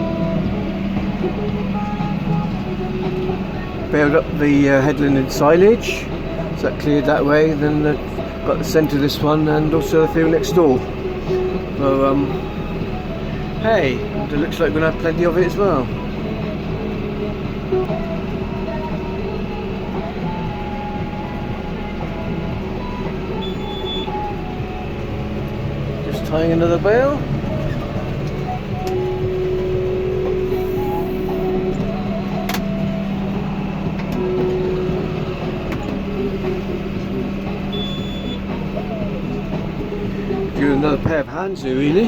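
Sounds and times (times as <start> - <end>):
thin steady whine: 0.0 - 42.0
tractor diesel engine running: 0.0 - 42.0.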